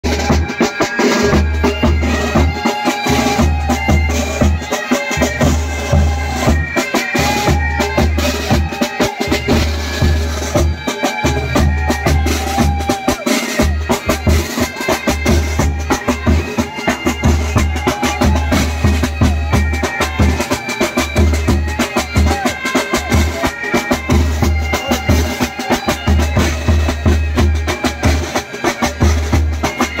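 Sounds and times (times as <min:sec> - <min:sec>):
side drums rattling: 0:00.0 - 0:30.0
bagpipes playing melody: 0:00.1 - 0:30.0.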